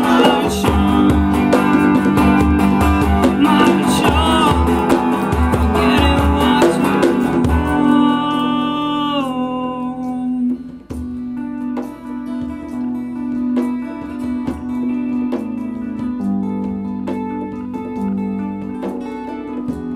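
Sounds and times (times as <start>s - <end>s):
live instrumental rock music: 0.0s - 19.9s.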